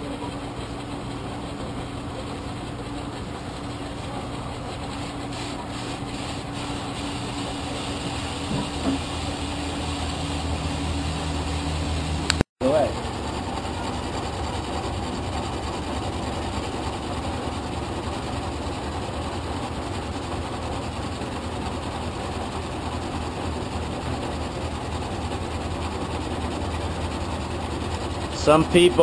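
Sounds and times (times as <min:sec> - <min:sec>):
metal lathe cutting: 0:00.3 - 0:29.0.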